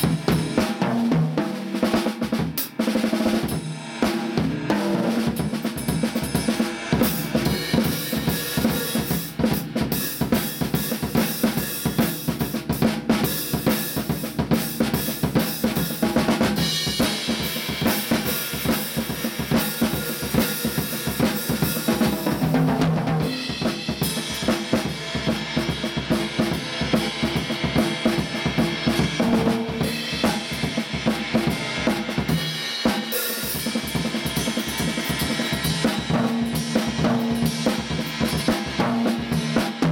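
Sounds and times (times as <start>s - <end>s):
drum kit played with sticks: 0.0s - 39.9s.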